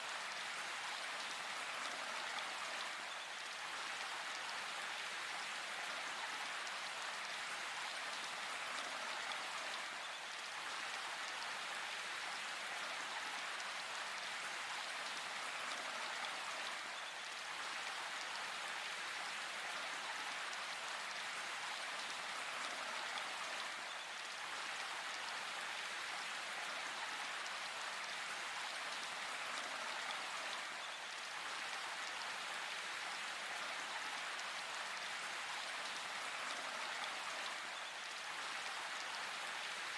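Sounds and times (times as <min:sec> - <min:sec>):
steady rain in a forest: 0:00.0 - 0:39.9.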